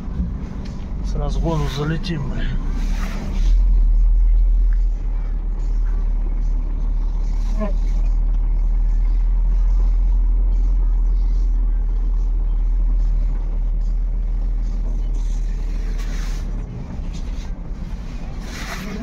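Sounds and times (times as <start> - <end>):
diesel truck engine drone: 0.0 - 19.0.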